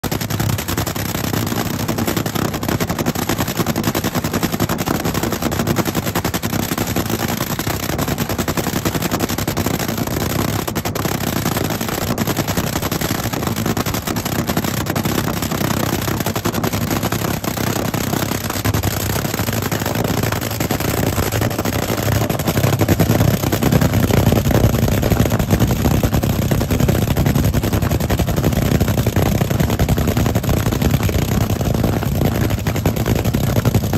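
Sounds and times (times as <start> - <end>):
dragster engine idling with crackle: 0.0 - 33.9.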